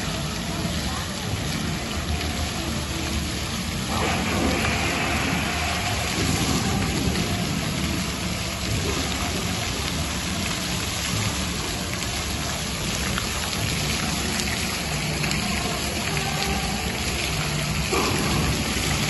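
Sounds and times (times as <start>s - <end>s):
fountain water splashing: 0.0s - 19.0s.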